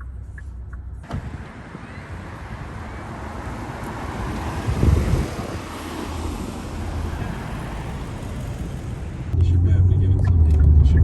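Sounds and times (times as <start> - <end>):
low engine hum: 0.0 - 11.0
low engine rumble: 0.0 - 11.0
road and wind noise: 0.0 - 11.0.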